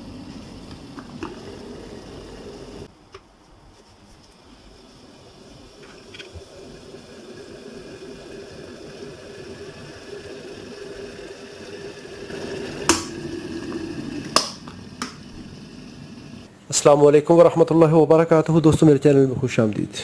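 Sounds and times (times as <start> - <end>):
electric kettle heating water: 0.0 - 16.5.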